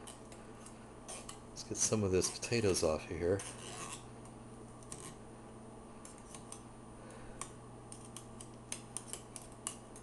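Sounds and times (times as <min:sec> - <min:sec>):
utensil scraping wire whisk: 0:00.0 - 0:05.2, 0:06.0 - 0:06.6, 0:07.4 - 0:10.0.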